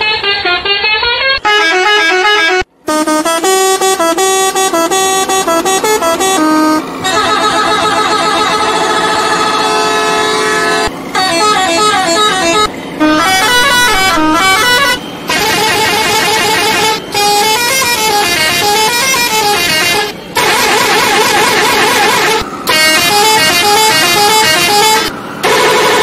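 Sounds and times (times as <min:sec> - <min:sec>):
musical vehicle horns playing tunes: 0:00.0 - 0:26.0.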